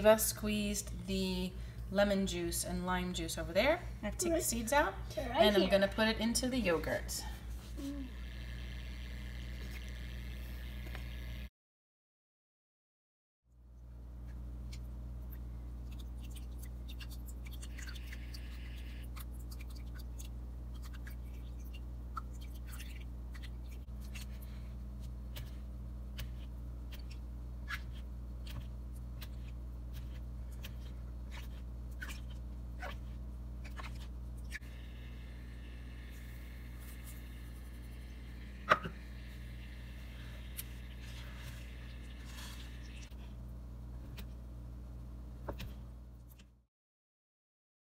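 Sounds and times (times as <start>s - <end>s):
steady low hum: 0.0s - 11.5s, 13.5s - 46.6s.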